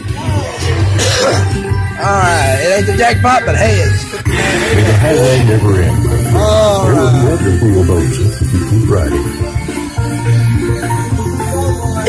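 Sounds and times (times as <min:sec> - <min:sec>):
slot machine music: 0:01.0 - 0:12.0.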